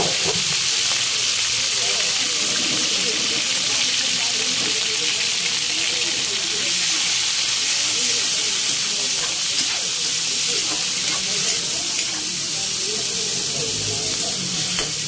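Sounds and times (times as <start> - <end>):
meat sizzling in hot oil: 0.0 - 15.0
utensil stirring in a pan: 0.0 - 15.0.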